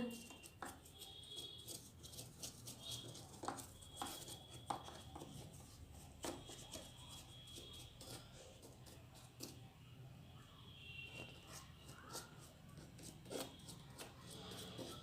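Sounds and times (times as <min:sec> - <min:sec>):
paintbrush dabbing rough surface: 0:00.1 - 0:09.7, 0:11.1 - 0:15.0.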